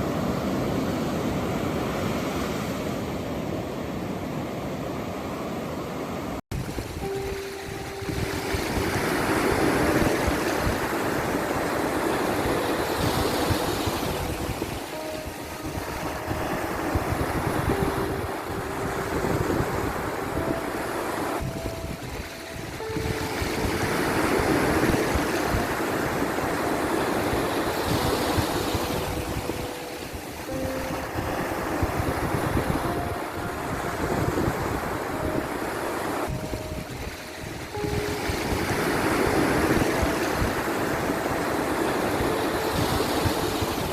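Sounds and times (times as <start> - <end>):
ocean waves washing: 0.0 - 43.9
soft calming melody: 0.0 - 43.9.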